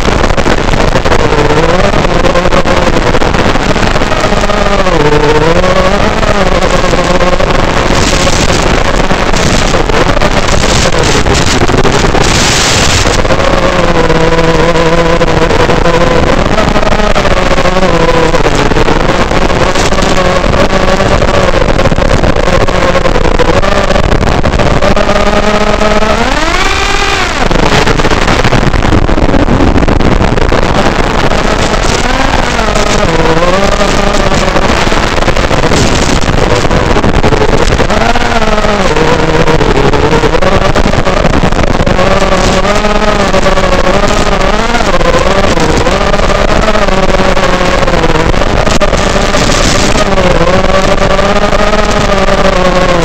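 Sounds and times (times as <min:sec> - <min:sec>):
drone motors buzzing: 0:00.0 - 0:53.0.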